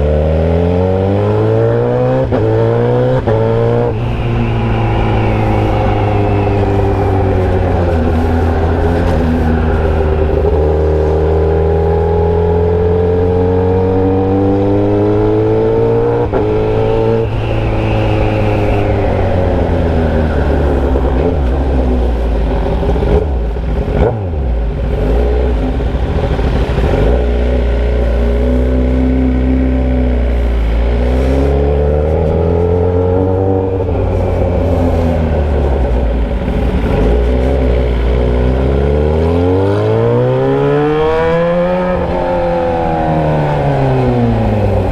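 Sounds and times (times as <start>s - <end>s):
motorcycle engine without muffler: 0.0s - 44.9s.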